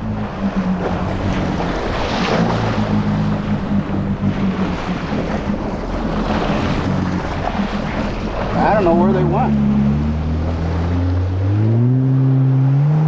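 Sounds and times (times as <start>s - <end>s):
jet ski engine running: 0.0s - 13.0s
water and wind rushing: 0.0s - 13.0s.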